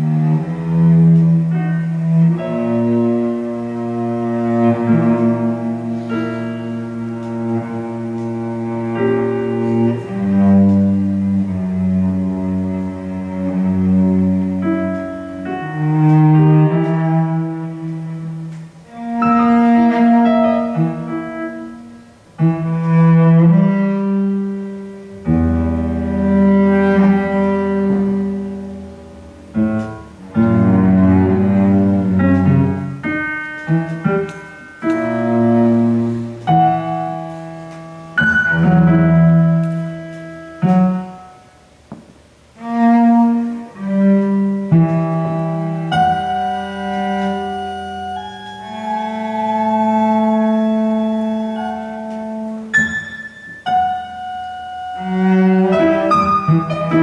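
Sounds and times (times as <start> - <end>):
bowed cello long notes: 0.0 - 57.0.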